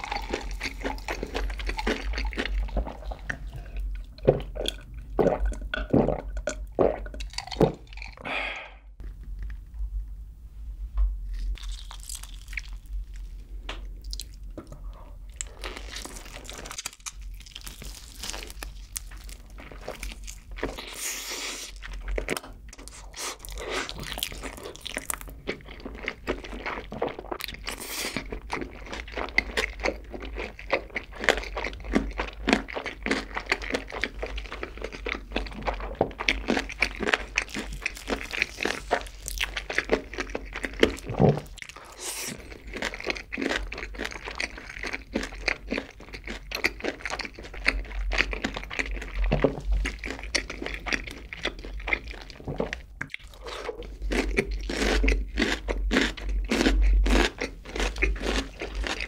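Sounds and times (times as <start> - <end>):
crunching and chewing fried chicken: 0.0 - 8.2, 11.3 - 59.0.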